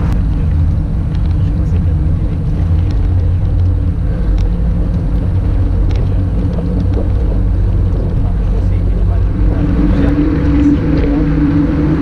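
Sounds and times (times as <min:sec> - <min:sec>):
bicycle tyre noise on pavement: 0:00.0 - 0:12.0
wind buffeting microphone: 0:00.0 - 0:12.0.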